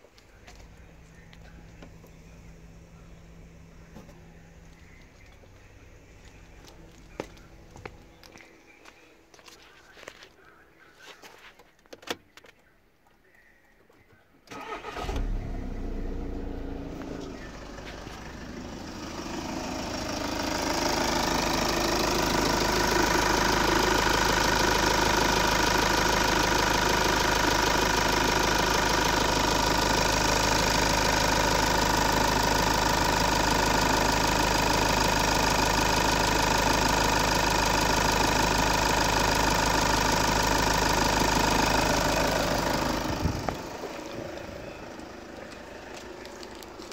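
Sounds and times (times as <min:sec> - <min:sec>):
diesel engine starting and idling: 0:00.0 - 0:08.4, 0:14.4 - 0:46.9.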